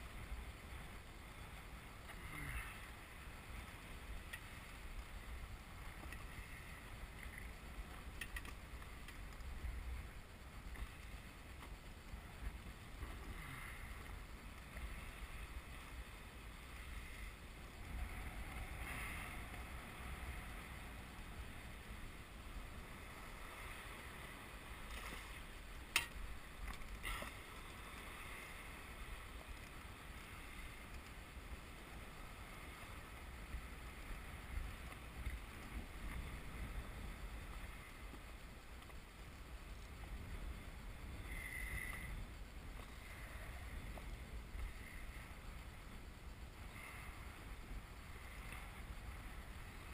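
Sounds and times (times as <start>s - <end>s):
wind rumbling on microphone: 0.0s - 49.9s.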